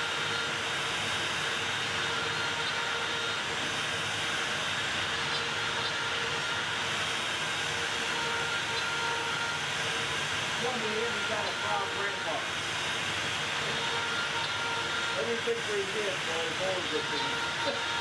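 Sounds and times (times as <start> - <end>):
router spinning with high whine: 0.0 - 18.0.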